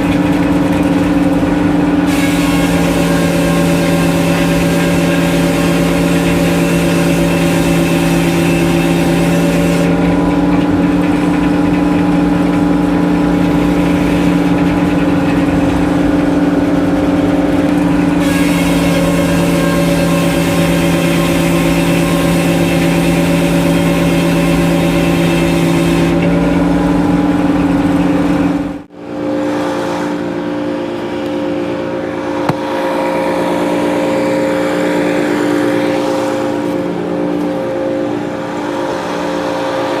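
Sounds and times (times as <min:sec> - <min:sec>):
sawmill engine running: 0:00.0 - 0:40.0.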